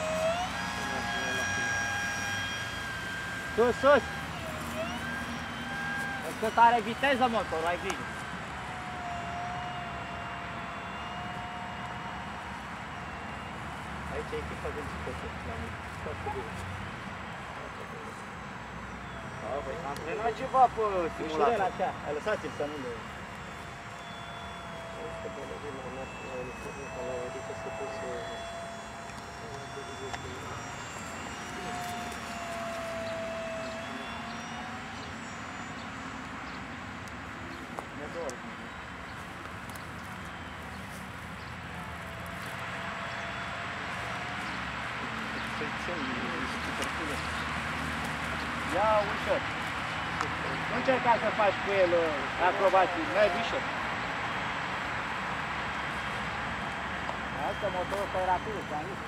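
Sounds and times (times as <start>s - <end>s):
model plane motor and propeller: 0.0s - 59.0s.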